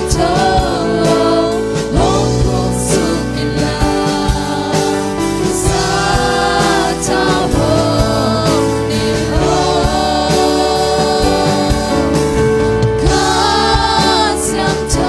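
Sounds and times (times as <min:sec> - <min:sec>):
band with keyboard and guitar: 0:00.0 - 0:15.0
singers leading worship song: 0:00.0 - 0:15.0.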